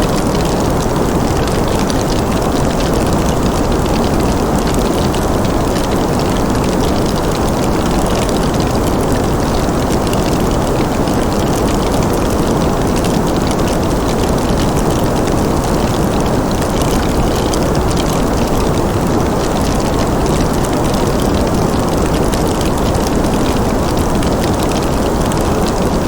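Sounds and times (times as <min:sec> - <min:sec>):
faint fire crackles: 0:00.0 - 0:26.0
low rushing noise of fire: 0:00.0 - 0:26.0.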